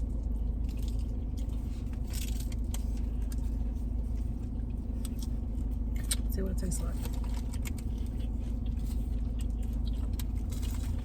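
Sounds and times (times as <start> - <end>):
car cabin hum and rumble: 0.0 - 11.0
food wrappers rustling: 0.2 - 11.0.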